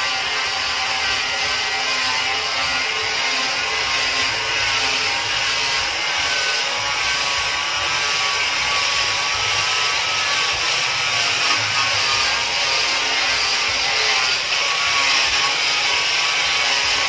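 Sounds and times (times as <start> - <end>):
angle grinder motor whine: 0.0 - 17.0
sanding disc hissing on wood: 0.0 - 17.0.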